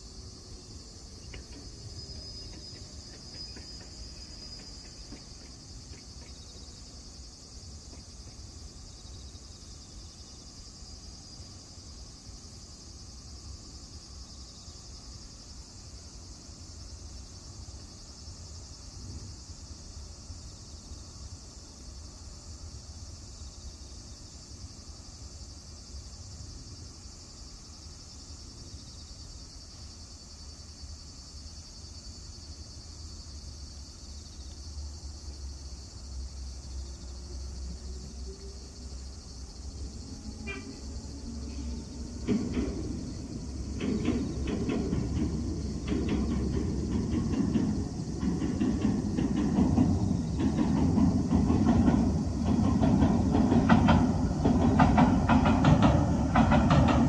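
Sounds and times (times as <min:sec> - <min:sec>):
insects singing: 0:00.0 - 0:57.0.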